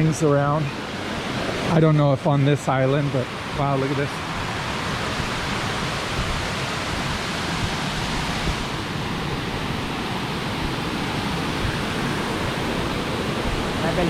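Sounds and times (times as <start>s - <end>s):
water rushing over a cascade: 0.0s - 14.0s.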